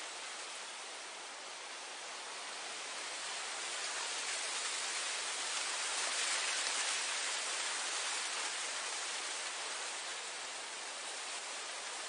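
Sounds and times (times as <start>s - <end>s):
wind blowing through grass: 0.0s - 12.0s.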